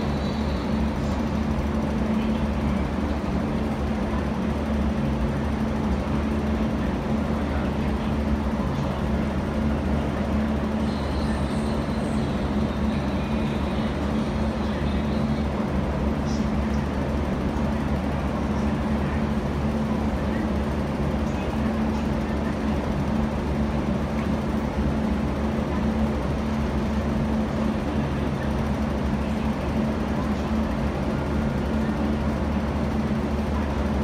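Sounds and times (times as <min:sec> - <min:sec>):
metro station hum and rumble: 0:00.0 - 0:34.0.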